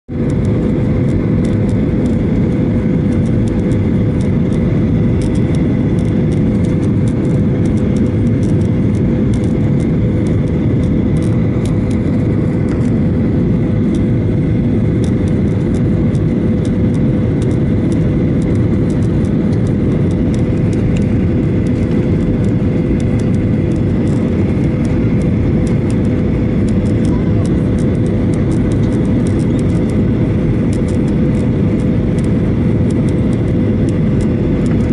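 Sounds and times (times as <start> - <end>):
constant hum tone: 0.0 - 34.9
jet engines and rushing air: 0.1 - 34.9.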